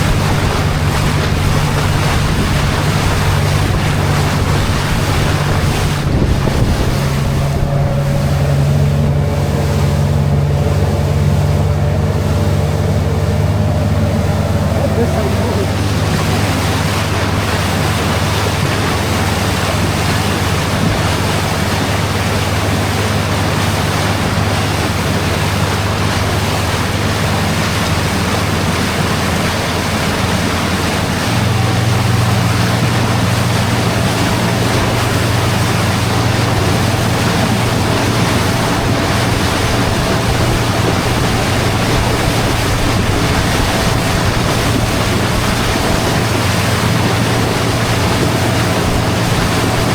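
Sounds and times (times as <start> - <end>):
motorboat engine running: 0.0 - 49.9
water rushing past hull: 0.0 - 49.9
wind on microphone: 0.0 - 49.9.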